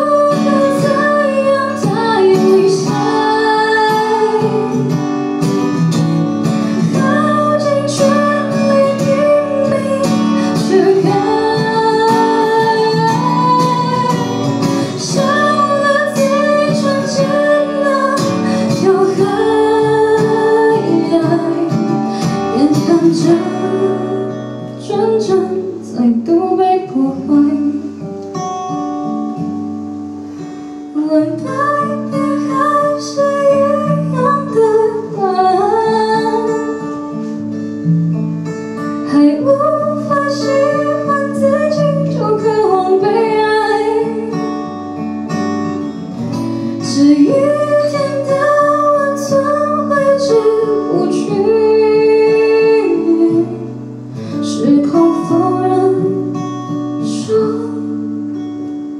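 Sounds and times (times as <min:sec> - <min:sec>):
woman singing a slow ballad: 0:00.0 - 0:05.8, 0:06.4 - 0:28.4, 0:30.2 - 0:37.9, 0:38.8 - 0:58.7
acoustic guitar: 0:00.0 - 0:58.9.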